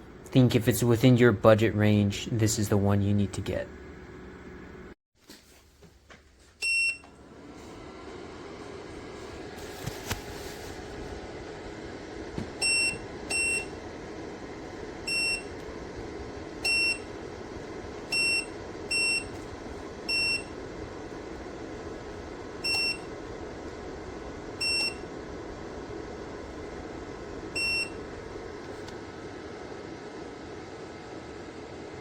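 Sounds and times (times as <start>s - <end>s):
heater humming: 0.0s - 5.0s, 5.8s - 32.0s.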